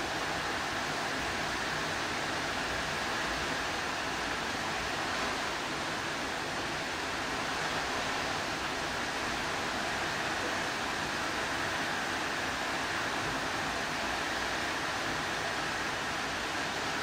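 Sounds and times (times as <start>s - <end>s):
torrential rain: 0.0s - 17.0s.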